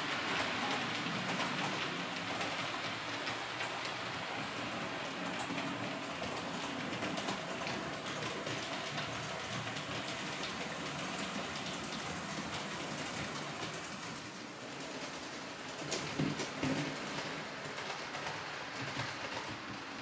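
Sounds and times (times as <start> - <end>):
model train wheels clicking on rails: 0.0 - 20.0.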